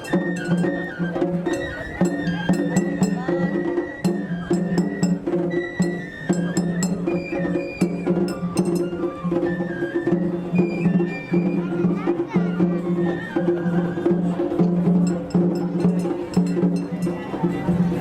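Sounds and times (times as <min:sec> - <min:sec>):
pulsing low drum beat: 0:00.0 - 0:09.6, 0:12.8 - 0:18.0
high flute melody: 0:00.0 - 0:18.0
sharp percussion strikes: 0:00.0 - 0:18.0.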